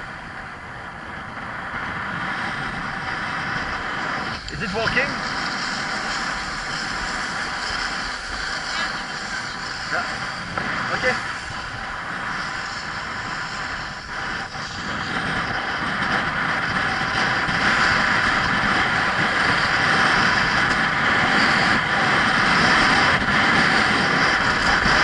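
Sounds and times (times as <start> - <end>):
wind rushing on microphone: 0.0 - 25.0
skis running over packed snow: 2.0 - 25.0.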